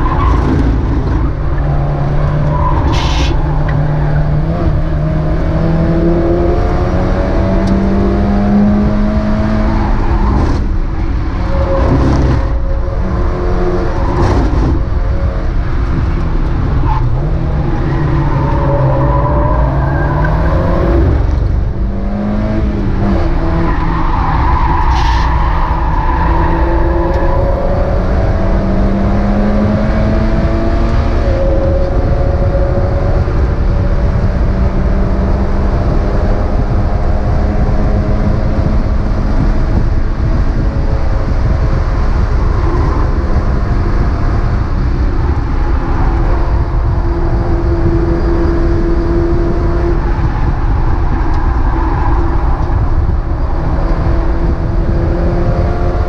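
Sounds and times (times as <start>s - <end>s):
race car engine revving: 0.0s - 56.0s
road and wind noise: 0.0s - 56.0s.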